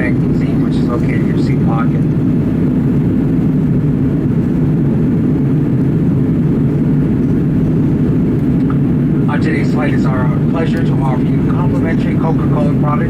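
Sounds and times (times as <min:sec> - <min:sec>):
aircraft cabin engine roar: 0:00.0 - 0:13.0.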